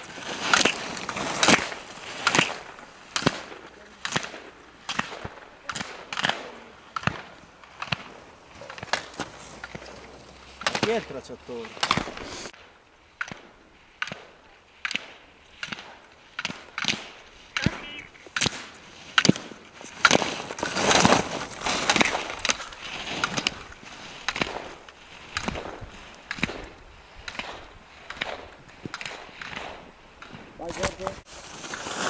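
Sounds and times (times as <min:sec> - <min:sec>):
skis carving snow: 0:00.0 - 0:12.6, 0:13.2 - 0:32.0.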